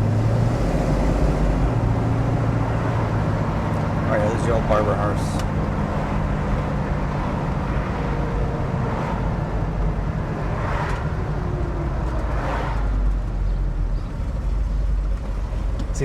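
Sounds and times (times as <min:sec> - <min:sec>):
car engine rumbling from inside cabin: 0:00.0 - 0:16.0.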